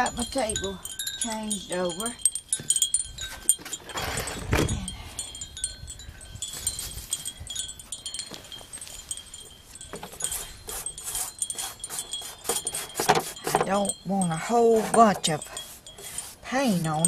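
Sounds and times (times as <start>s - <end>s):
wind chimes tinkling: 0.0s - 17.0s.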